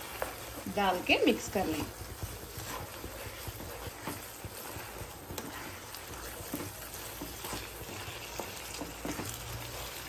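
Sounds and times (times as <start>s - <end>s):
curry sizzling and bubbling in a pan: 0.0s - 10.0s
wooden spatula scraping a pan: 0.0s - 10.0s.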